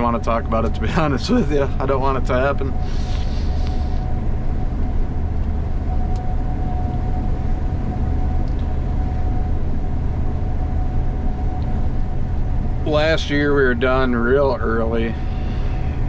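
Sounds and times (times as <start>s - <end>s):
diesel engine droning: 0.0s - 16.0s
thin whine: 0.0s - 16.0s.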